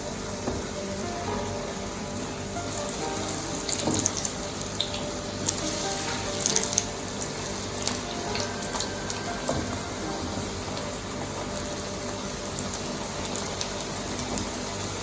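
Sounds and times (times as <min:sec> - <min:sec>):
food sizzling in oil: 0:00.2 - 0:15.0.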